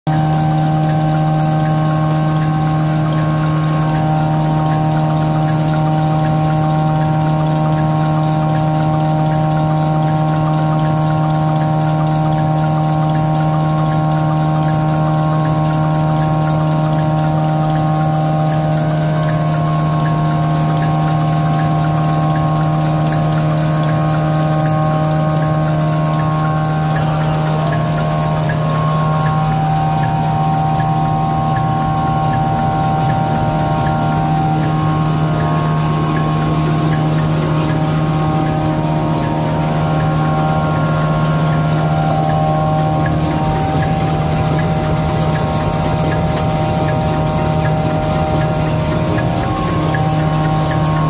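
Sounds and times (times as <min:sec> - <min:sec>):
paper towel machine humming: 0:00.1 - 0:51.0.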